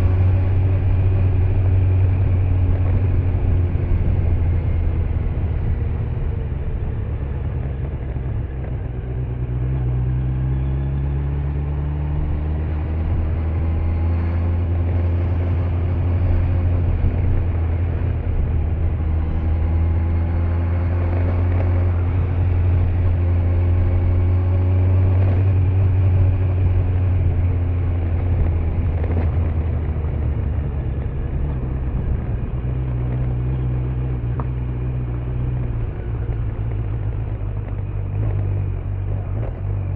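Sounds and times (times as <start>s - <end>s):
motorcycle engine running: 0.0s - 39.9s
road and tyre noise: 0.0s - 39.9s.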